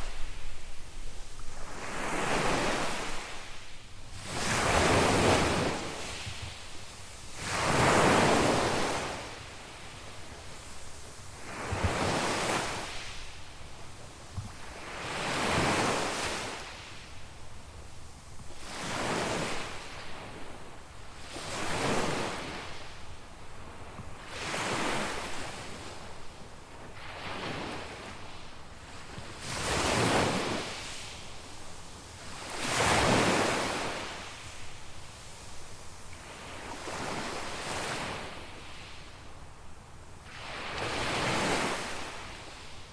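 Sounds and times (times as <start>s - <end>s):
small waves breaking on beach: 0.0s - 42.9s.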